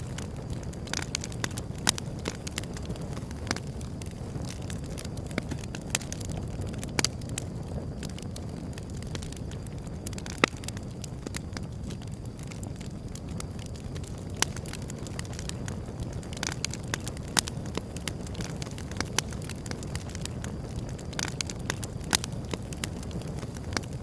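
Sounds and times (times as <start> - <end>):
fire rumbling: 0.0 - 24.0
wood crackling and popping: 0.0 - 24.0.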